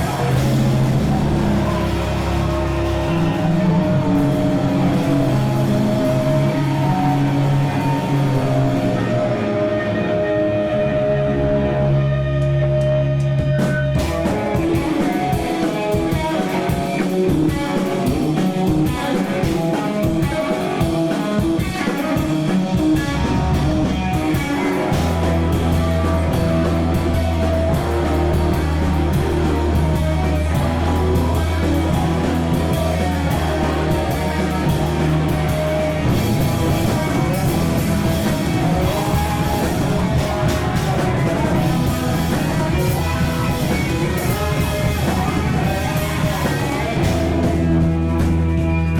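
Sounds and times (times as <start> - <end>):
deep held bass line: 0.0 - 15.5, 22.6 - 48.9
rock band playing live: 0.0 - 48.9.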